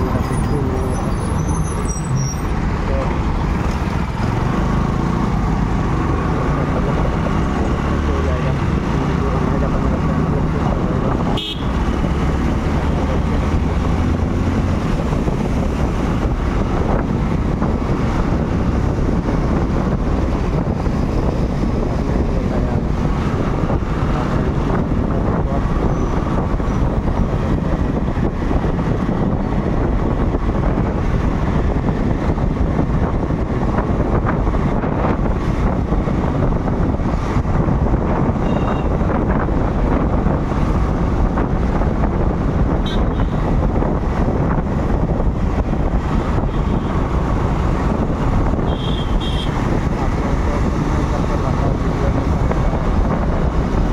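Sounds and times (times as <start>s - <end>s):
road and traffic rumble: 0.0s - 53.9s
wind rushing over microphone: 0.0s - 53.9s.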